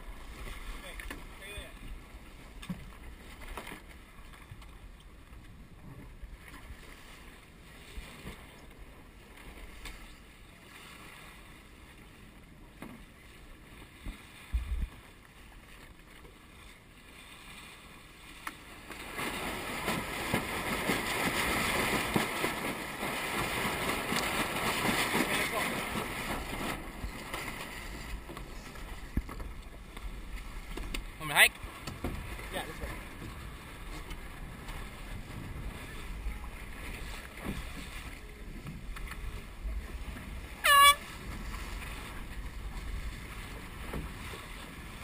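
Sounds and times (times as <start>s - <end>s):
wind and water rushing past boat: 0.0s - 45.0s.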